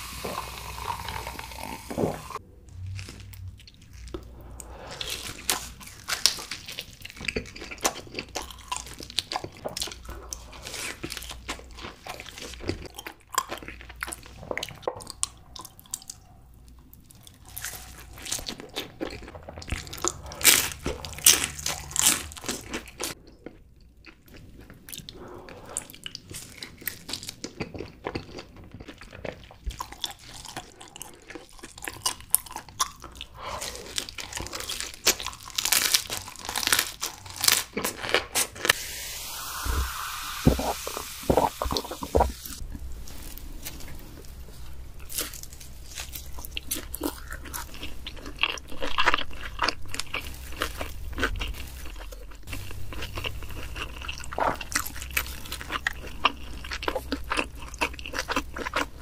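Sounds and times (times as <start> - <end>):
crunching and chewing pizza: 2.7 - 38.8, 41.7 - 59.0.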